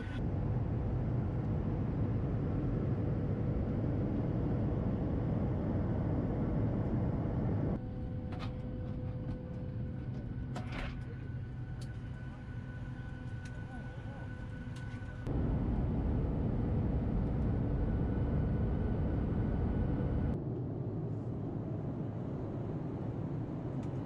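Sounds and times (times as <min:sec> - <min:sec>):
airplane cabin noise: 0:00.0 - 0:24.0.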